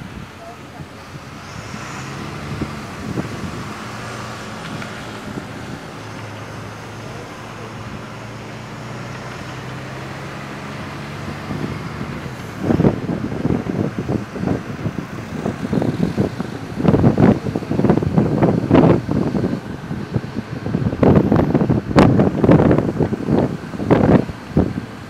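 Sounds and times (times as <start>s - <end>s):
bus engine running: 0.0s - 25.0s
road noise: 0.0s - 25.0s
wind buffeting microphone: 0.0s - 25.0s.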